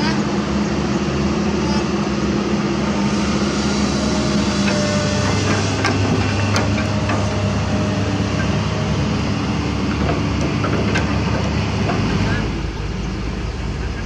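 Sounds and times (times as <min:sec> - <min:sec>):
excavator diesel engine running: 0:00.0 - 0:14.0
hydraulic whine: 0:00.2 - 0:14.0.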